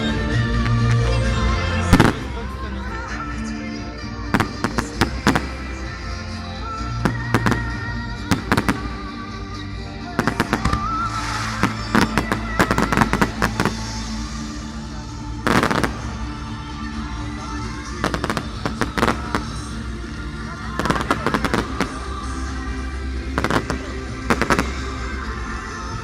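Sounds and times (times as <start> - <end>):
music: 0.0 - 26.0
fireworks banging and crackling: 1.8 - 2.4, 4.3 - 6.0, 6.8 - 9.4, 10.0 - 26.0.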